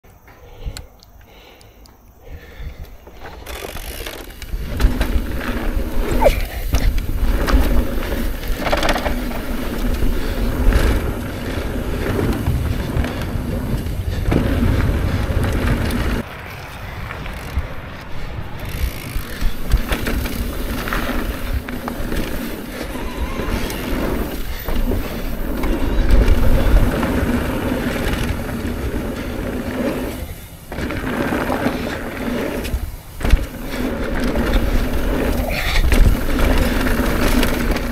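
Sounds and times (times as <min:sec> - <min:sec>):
bike tyres rolling on dirt: 0:00.0 - 0:37.9
wind rumbling on microphone: 0:02.2 - 0:37.9
bike rattling over bumps: 0:02.4 - 0:37.9.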